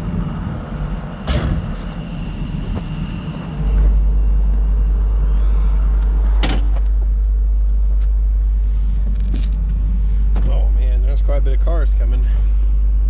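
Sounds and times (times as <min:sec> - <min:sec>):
excavator engine rumbling: 0:00.0 - 0:13.0.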